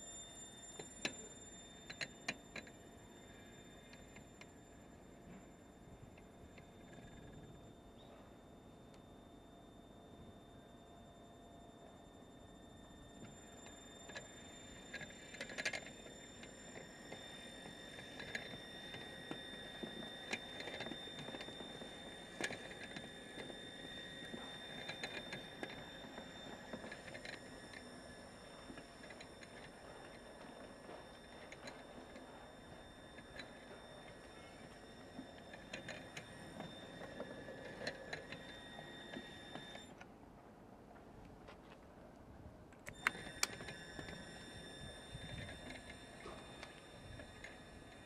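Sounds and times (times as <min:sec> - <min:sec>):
grinder high whine: 0:00.0 - 0:40.0, 0:42.9 - 0:48.0.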